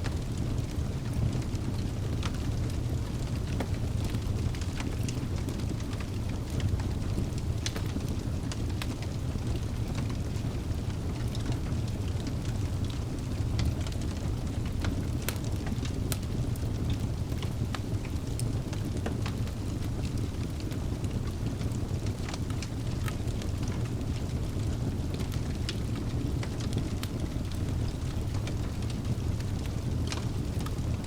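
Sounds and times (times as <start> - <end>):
fire rumbling: 0.0 - 31.0
logs crackling and popping: 0.0 - 31.0.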